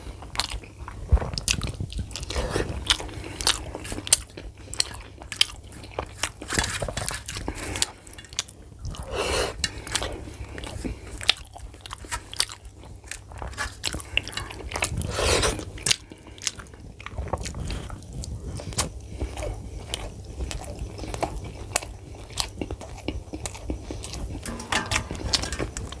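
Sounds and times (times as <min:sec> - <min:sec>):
person chewing with wet smacks: 0:00.2 - 0:24.4.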